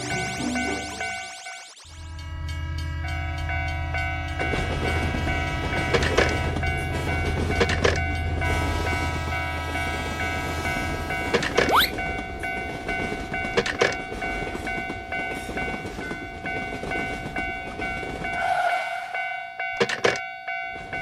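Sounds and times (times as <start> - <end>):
level crossing warning bell: 0.0 - 21.0
passing train rumble: 2.0 - 21.0.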